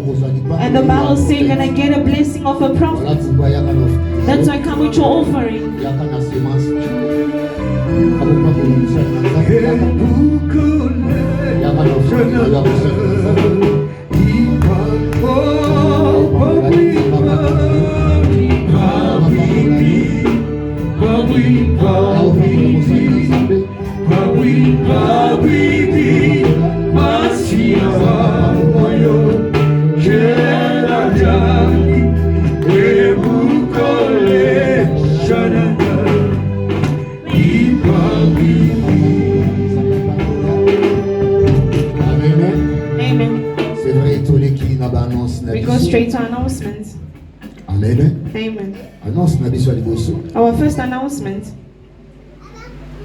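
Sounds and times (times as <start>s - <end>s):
gospel singing: 0.0s - 46.3s
band accompaniment: 0.0s - 53.0s.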